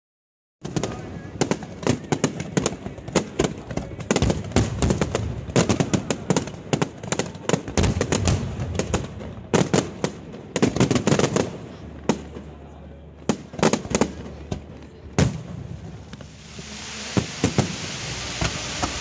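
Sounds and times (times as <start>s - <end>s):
fireworks bursting: 0.6s - 19.0s.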